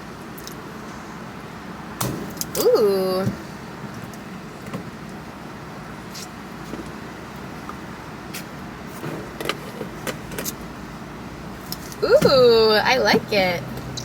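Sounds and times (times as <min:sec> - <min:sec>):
car cabin hum: 0:01.6 - 0:14.0.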